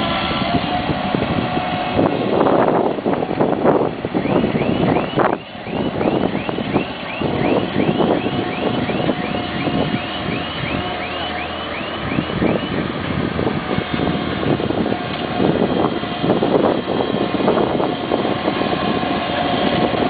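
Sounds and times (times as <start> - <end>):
grader pushing loose dirt: 0.0 - 4.6, 5.2 - 20.0
skid-steer loader engine: 0.0 - 20.0.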